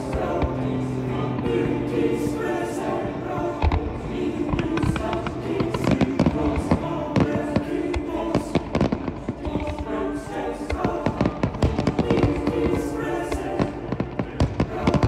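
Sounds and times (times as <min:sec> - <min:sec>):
fireworks bursting: 0:00.0 - 0:15.0
music with singing voices: 0:00.0 - 0:15.0.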